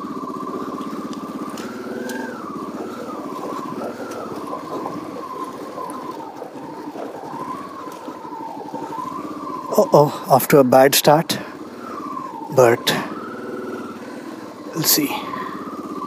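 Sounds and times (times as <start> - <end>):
high wavering whine: 0.0 - 16.0
motorcycle engine at low revs: 0.0 - 16.0.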